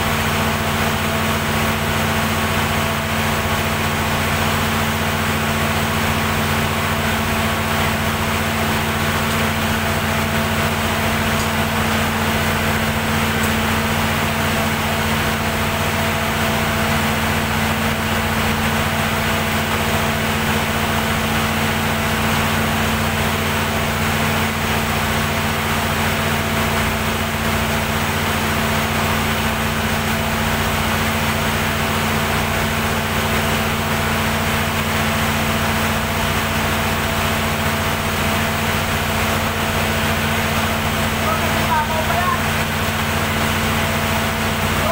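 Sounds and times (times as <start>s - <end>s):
diesel generator humming: 0.0s - 44.9s.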